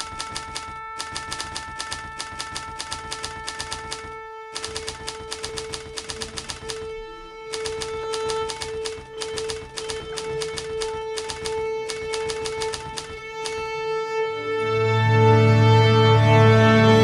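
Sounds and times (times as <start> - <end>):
steady held tone: 0.0 - 13.8
typewriter keys clacking: 0.0 - 13.8.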